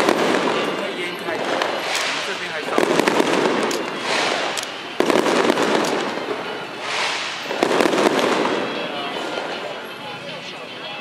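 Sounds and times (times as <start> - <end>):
firework bangs: 0.0 - 9.9
fireworks crackling and hissing: 0.0 - 9.9.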